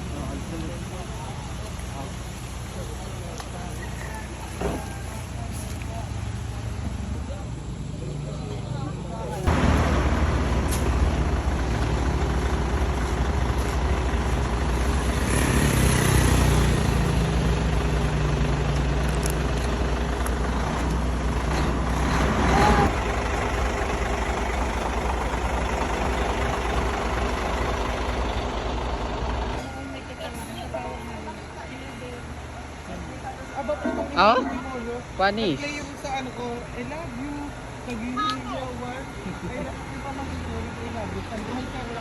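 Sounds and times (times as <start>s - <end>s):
heavy truck engine running: 0.0s - 42.0s.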